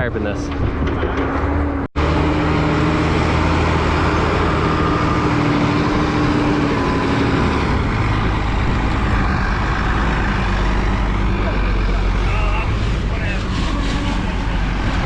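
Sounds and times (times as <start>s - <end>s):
engine hum: 0.0s - 15.0s
wind buffeting microphone: 0.0s - 15.0s.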